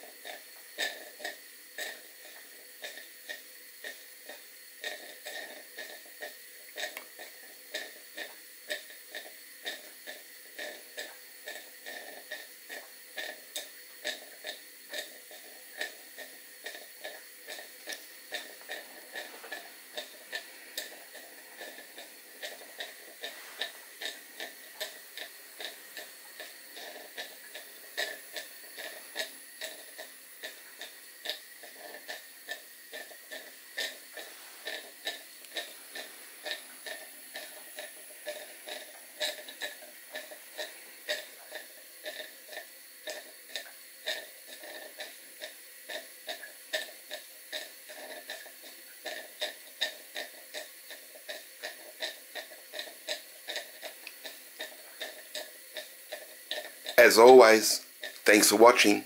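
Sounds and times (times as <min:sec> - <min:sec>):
steady steam hiss: 0:00.0 - 0:59.0.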